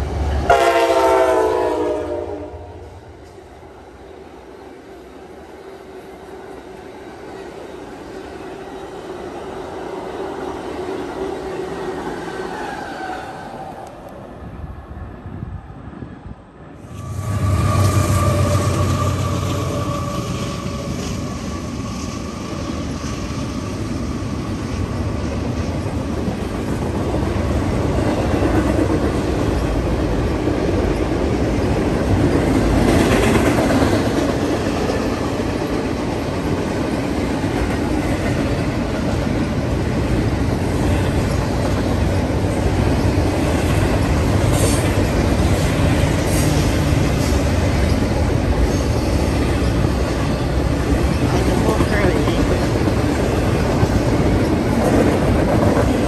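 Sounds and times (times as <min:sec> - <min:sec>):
diesel locomotive humming: 0:00.0 - 0:56.0.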